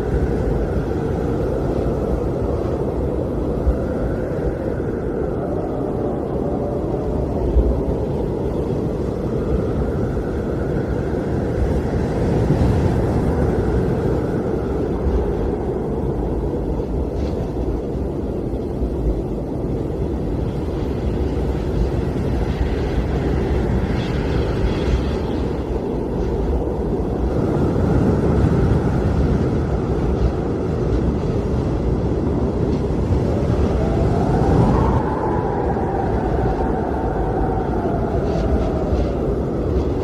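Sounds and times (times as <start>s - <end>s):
blizzard wind blowing: 0.0s - 40.0s.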